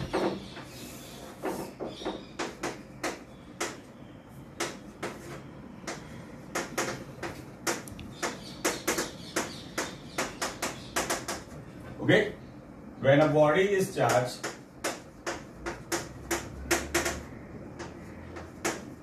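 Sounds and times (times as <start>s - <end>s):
chalk tapping and scratching: 0.0s - 3.9s, 4.5s - 11.6s, 13.8s - 19.0s.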